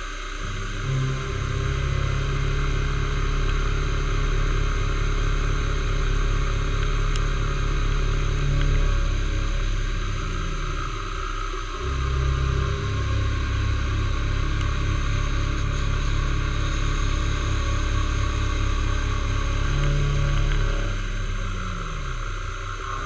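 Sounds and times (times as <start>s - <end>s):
milling machine running: 0.0s - 23.0s.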